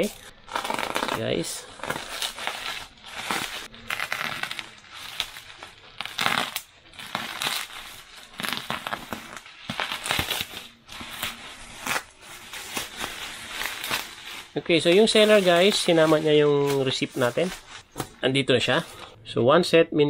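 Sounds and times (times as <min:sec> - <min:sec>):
bubble wrap crinkling: 0:00.0 - 0:19.2.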